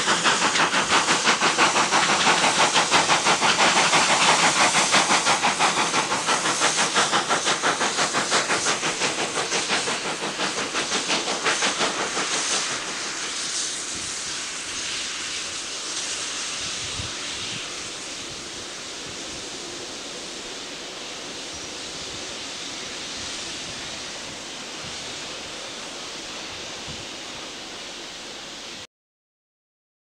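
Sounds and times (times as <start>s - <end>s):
train carriages rushing by: 0.0s - 28.8s
steam locomotive: 0.0s - 28.9s.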